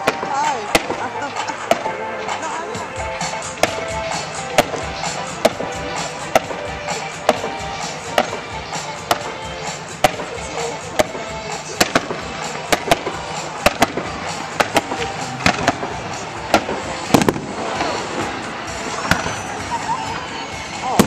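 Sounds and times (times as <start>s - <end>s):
distant fireworks bangs: 0.0s - 2.5s, 3.1s - 20.2s
music playing: 0.0s - 21.0s.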